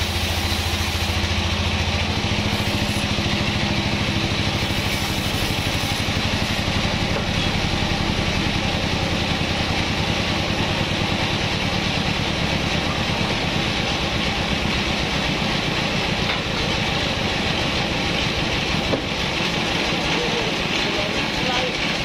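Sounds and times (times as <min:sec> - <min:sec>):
band sawmill pulsing drone: 0:00.0 - 0:22.0.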